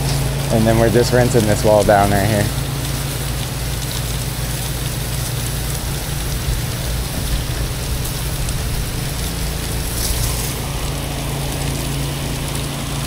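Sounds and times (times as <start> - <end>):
pressure washer engine humming: 0.0 - 13.0
water spray hissing against wall: 0.0 - 13.0.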